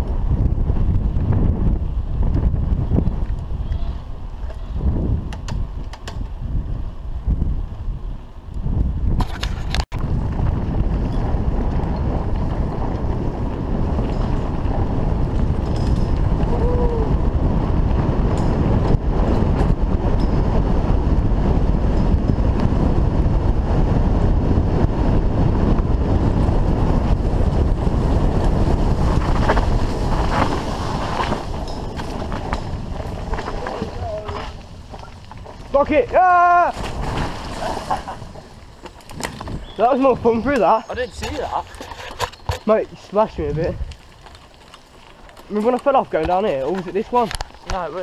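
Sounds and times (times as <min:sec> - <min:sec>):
bike tyres rumbling over dirt: 0:00.0 - 0:48.0
wind rushing over microphone: 0:00.0 - 0:48.0.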